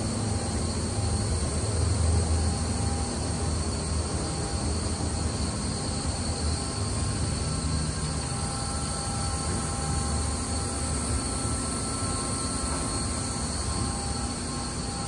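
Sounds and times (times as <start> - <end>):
faint high whines: 0.0 - 15.0.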